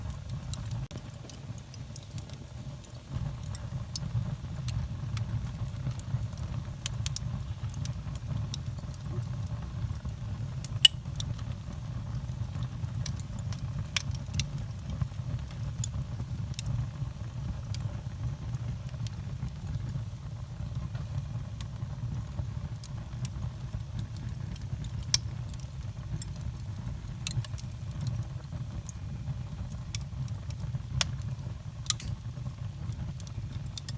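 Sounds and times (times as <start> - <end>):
fire crackling and popping: 0.0 - 33.9
low rumble of flames: 0.0 - 33.9.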